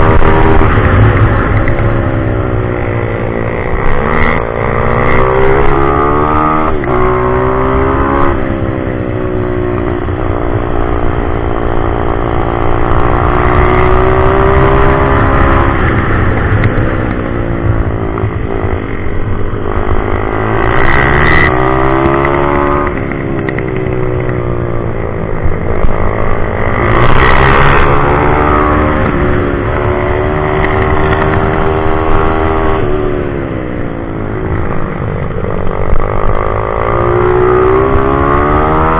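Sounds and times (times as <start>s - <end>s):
pit bike engine revving: 0.0s - 8.7s, 10.0s - 33.4s.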